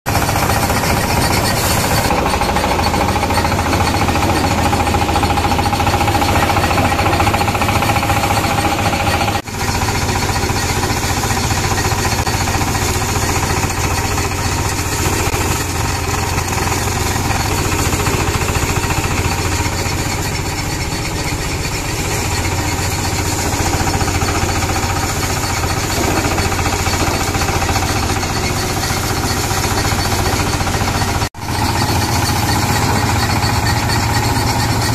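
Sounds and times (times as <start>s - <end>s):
motor-driven thresher running: 0.1s - 34.9s.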